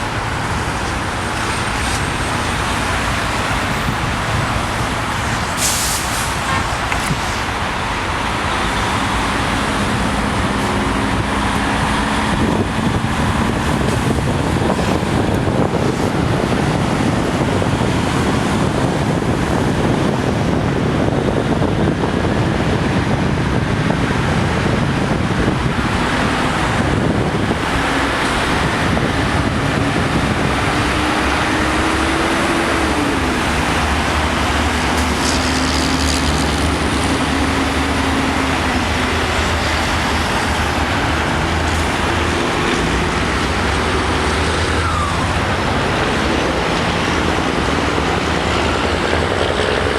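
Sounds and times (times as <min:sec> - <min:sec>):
freeway traffic noise: 0:00.0 - 0:49.9.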